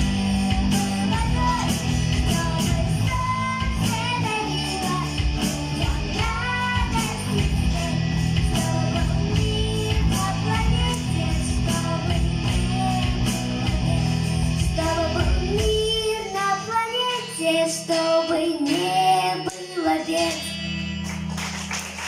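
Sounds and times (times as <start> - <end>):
person singing: 0.0 - 20.6.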